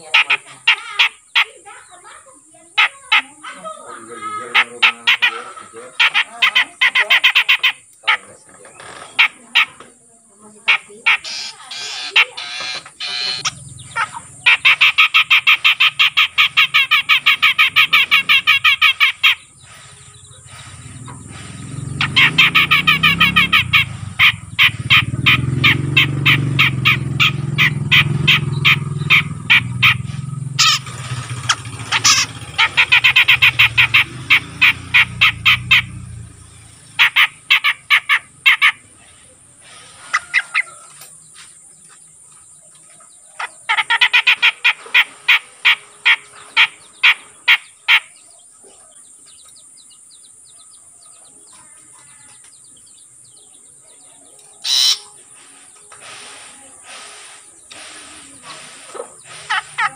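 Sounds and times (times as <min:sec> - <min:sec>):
bird chattering: 0:00.0 - 0:59.9.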